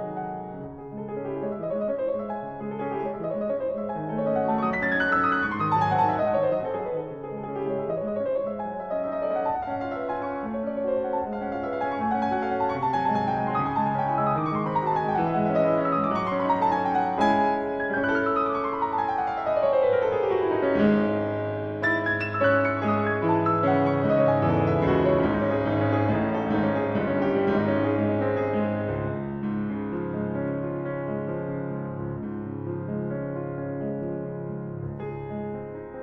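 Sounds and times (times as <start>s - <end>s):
solo classical piano: 0.0s - 36.0s.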